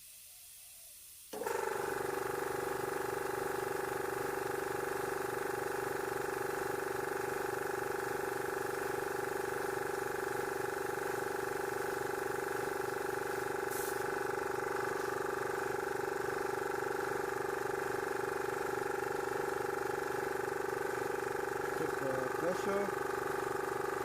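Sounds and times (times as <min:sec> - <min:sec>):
air compressor running: 0:01.3 - 0:24.0.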